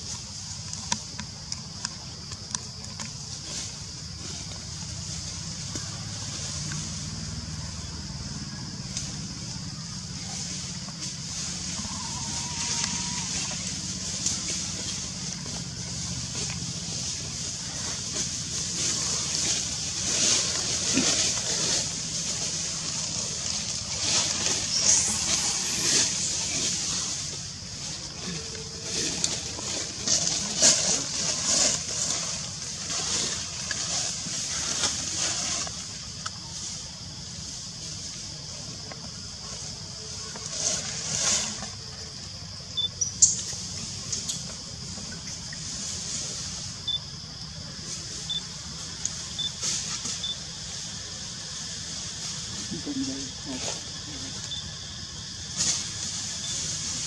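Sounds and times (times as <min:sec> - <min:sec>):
high-pitched forest hiss: 0:00.0 - 0:57.0.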